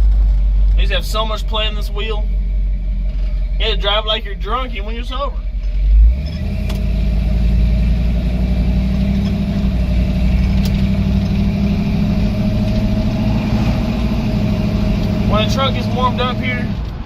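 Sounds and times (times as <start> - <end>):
pickup engine running: 0.0 - 17.0.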